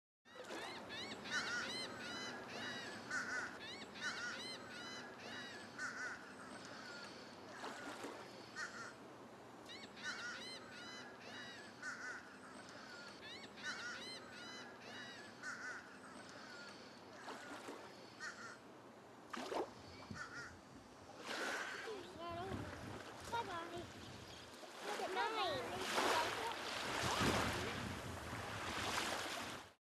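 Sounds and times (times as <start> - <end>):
wading birds calling: 0.3 - 18.7, 19.3 - 29.5.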